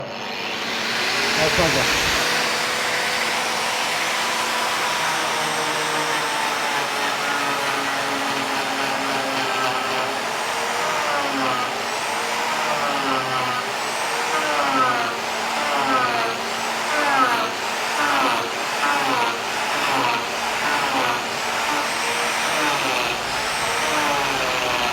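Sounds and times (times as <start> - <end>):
power tool motor whining: 0.0 - 24.9.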